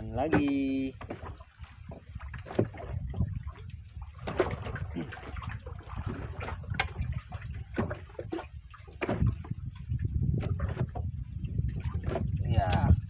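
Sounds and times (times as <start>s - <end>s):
waves lapping against boat hull: 0.0s - 13.0s
wind on microphone: 0.0s - 13.0s.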